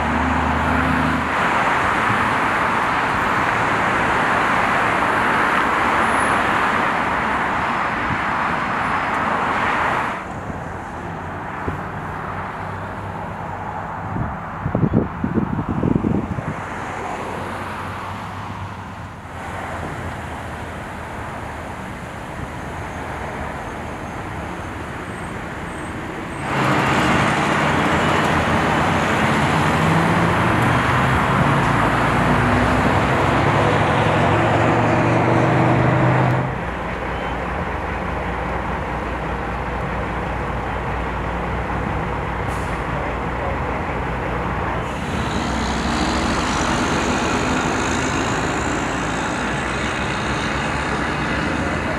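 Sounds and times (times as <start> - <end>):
heavy vehicle engine: 0.0 - 51.9
road traffic going by: 0.0 - 51.9.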